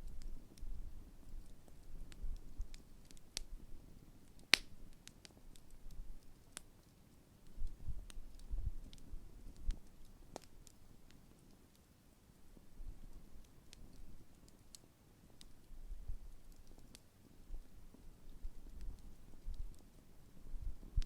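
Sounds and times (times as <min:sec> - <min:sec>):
fire pops: 0:00.0 - 0:11.9, 0:12.6 - 0:20.0
bonfire crackling: 0:00.0 - 0:21.0.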